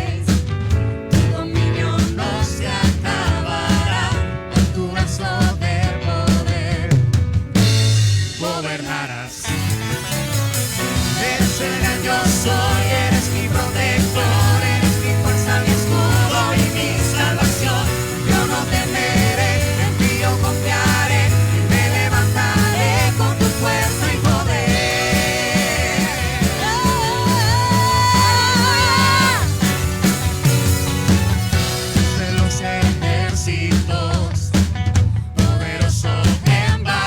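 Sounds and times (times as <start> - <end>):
steady drum beat: 0.0 - 37.0
worship band playing: 0.0 - 37.0.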